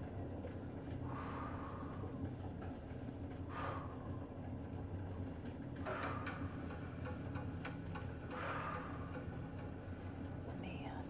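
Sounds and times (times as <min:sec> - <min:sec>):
low ambient soundscape: 0:00.0 - 0:11.0.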